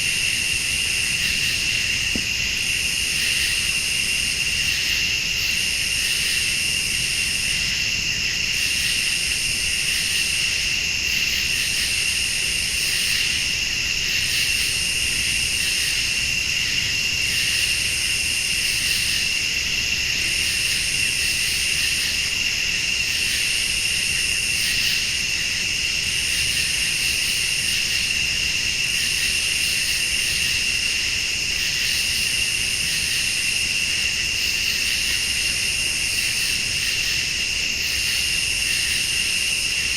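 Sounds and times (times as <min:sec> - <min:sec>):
crickets trilling: 0:00.0 - 0:39.9
high insect buzz: 0:00.0 - 0:39.9.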